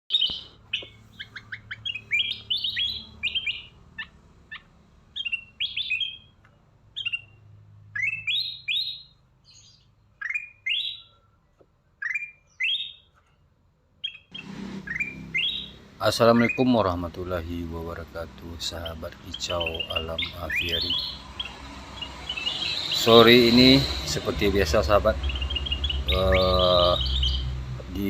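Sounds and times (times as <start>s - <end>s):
birds chirping: 0.0s - 28.0s
upswept whistled bird notes: 0.1s - 4.6s, 5.2s - 6.4s, 8.0s - 13.1s, 14.0s - 17.1s, 18.6s - 27.6s.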